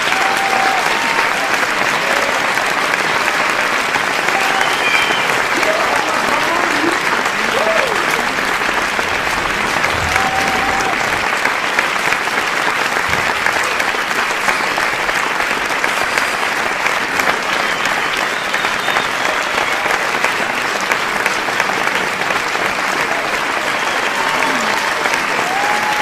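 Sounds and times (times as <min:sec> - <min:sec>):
large audience applauding: 0:00.0 - 0:26.0.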